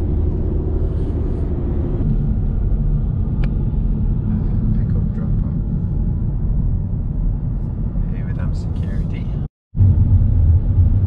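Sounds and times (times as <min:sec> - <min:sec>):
car driving at speed: 0:00.0 - 0:11.0
road noise: 0:00.0 - 0:11.0.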